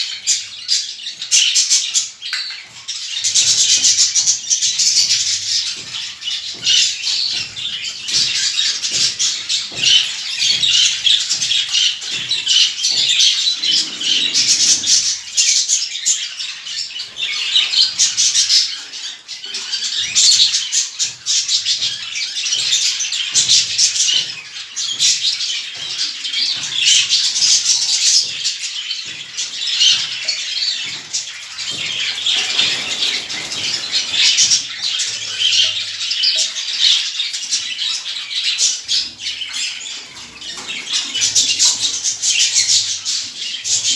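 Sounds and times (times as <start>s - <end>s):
cage birds chirping and squawking: 0.0s - 43.9s.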